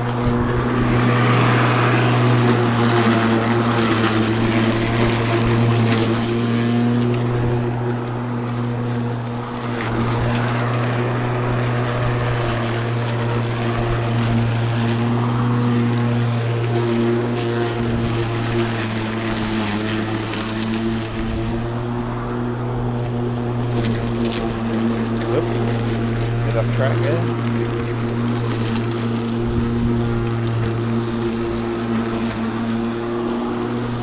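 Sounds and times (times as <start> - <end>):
electric lawn mower humming: 0.0 - 34.0
grass cutting rushing noise: 0.0 - 34.0.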